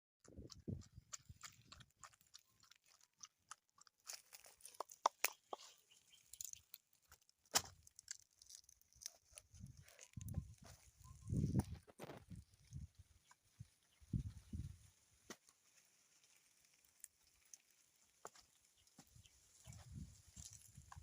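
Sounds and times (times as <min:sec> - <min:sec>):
crunching and crackling: 0:00.2 - 0:13.6, 0:15.2 - 0:21.0.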